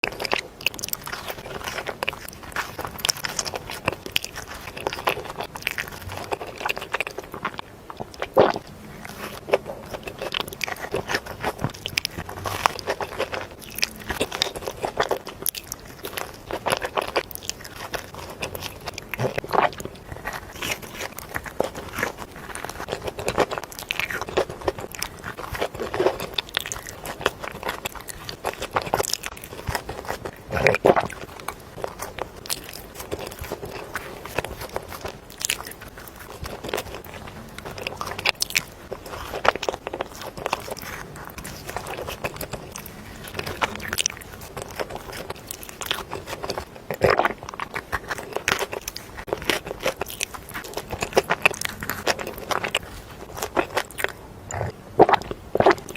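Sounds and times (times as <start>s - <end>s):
person chewing crunchy food: 0.0s - 55.9s.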